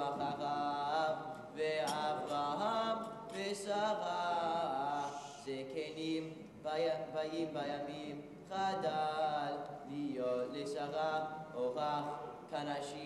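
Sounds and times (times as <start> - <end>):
boy chanting scripture: 0.0 - 13.0.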